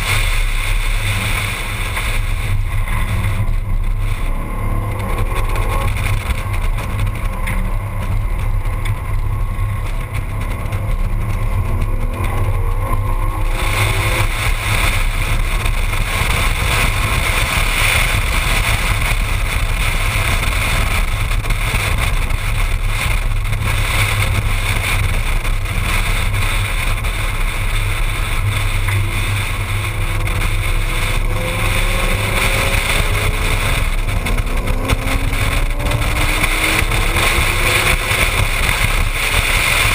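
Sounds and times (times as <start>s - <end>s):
car engine at speed: 0.0s - 39.9s
road rush: 0.0s - 39.9s
wind noise: 0.0s - 39.9s.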